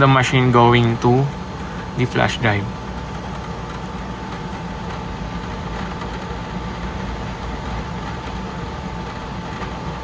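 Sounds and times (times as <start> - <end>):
faint constant whine: 0.0 - 10.0
mechanical hum: 0.0 - 10.0.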